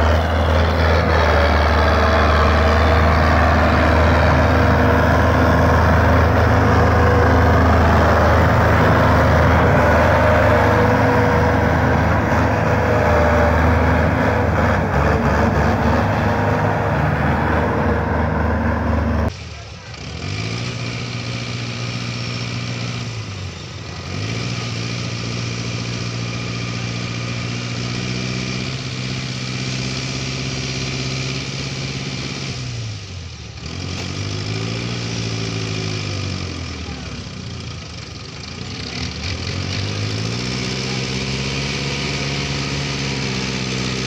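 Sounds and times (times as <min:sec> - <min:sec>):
diesel tractor engine straining: 0:00.0 - 0:44.0.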